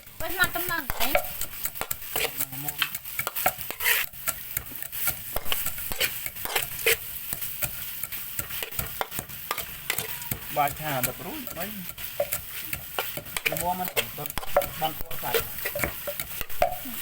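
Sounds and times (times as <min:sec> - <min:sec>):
food sizzling: 0:00.0 - 0:17.0
spatula scraping a pan: 0:00.0 - 0:17.0.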